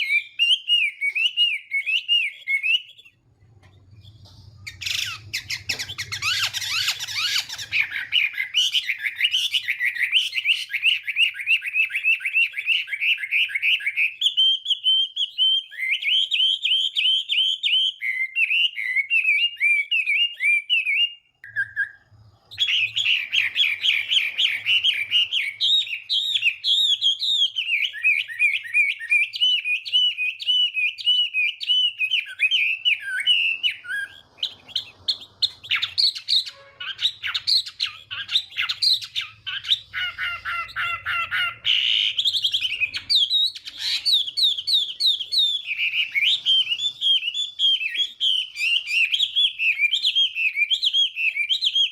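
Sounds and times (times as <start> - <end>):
bird singing whistled notes: 0.0 - 51.9.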